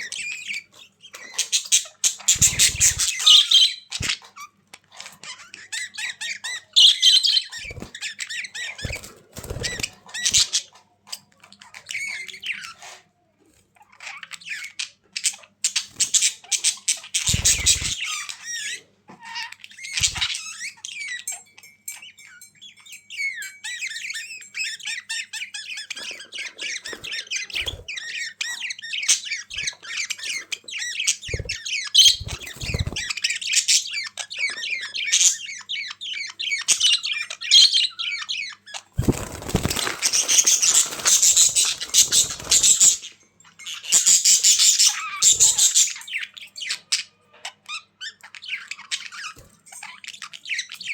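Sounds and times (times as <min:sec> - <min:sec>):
budgerigars chattering: 0:00.0 - 0:13.0, 0:13.8 - 0:21.3, 0:23.2 - 0:50.9.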